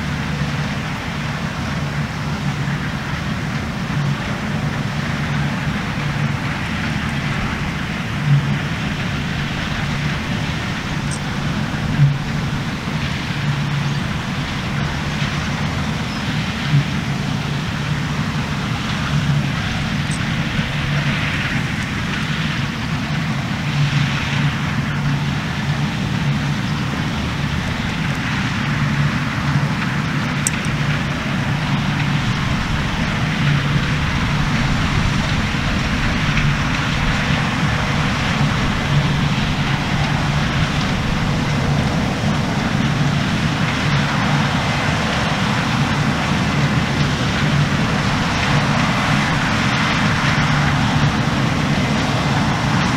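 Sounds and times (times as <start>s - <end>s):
combine harvester droning: 0.0s - 52.9s.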